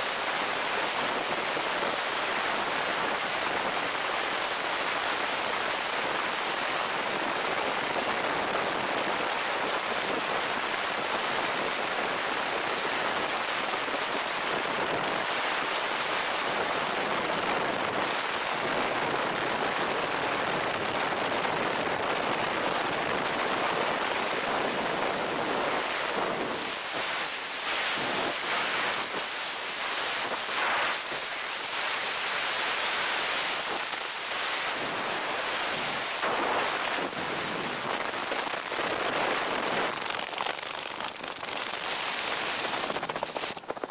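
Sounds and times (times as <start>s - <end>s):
freefall wind roar: 0.0s - 43.9s.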